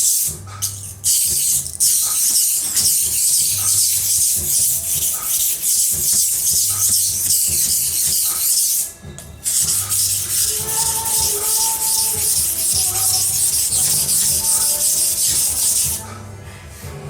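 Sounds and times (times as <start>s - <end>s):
knife grinding on abrasive: 0.0s - 16.1s.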